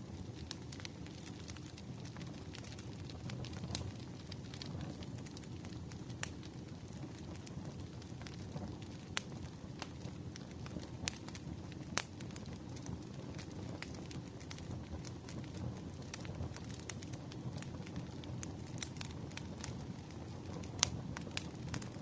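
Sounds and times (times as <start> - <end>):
low steady rumble: 0.0 - 22.0
wood fire crackling: 0.0 - 22.0.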